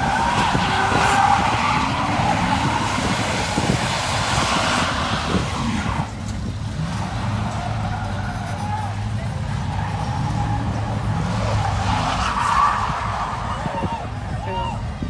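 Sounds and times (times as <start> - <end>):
tires squealing: 0.0 - 15.0
truck engine rumble: 0.0 - 15.0.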